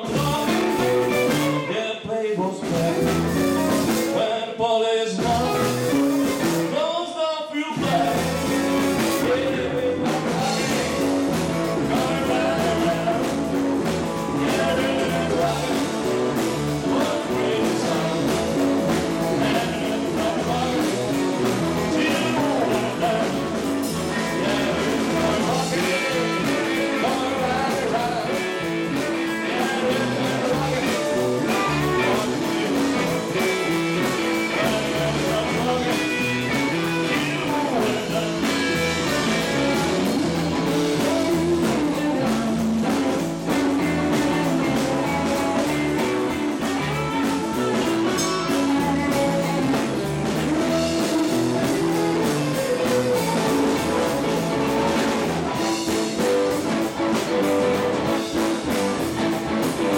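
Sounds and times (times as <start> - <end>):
bass guitar: 0.0 - 4.4, 5.1 - 7.0, 7.6 - 59.9
electric guitars: 0.0 - 4.4, 5.2 - 7.0, 7.6 - 59.9
drums: 0.0 - 59.9.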